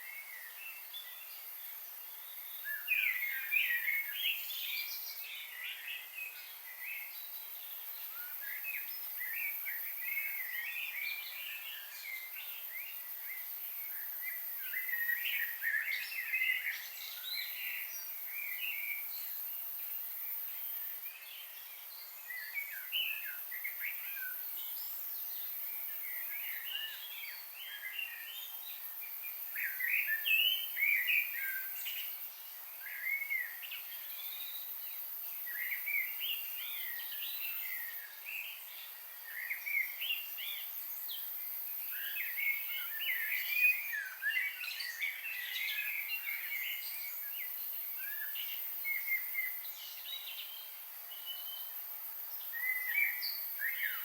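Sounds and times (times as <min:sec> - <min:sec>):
steady high-pitched hiss: 0:00.0 - 0:54.0.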